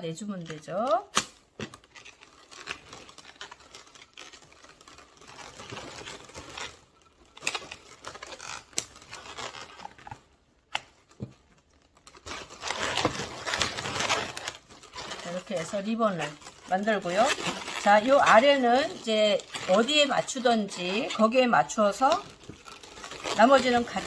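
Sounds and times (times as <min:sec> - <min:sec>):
balloons rubbing and crinkling: 0:00.0 - 0:24.0.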